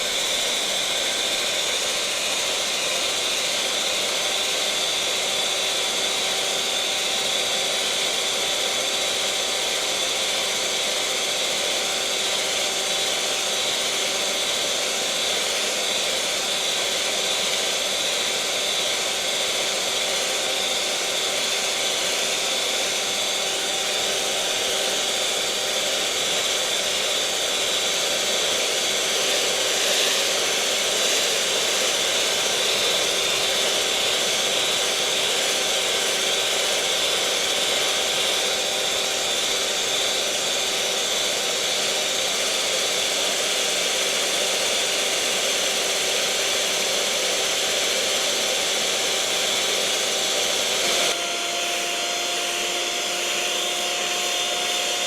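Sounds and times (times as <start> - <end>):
electric mixer motor whirring: 0.0 - 55.0.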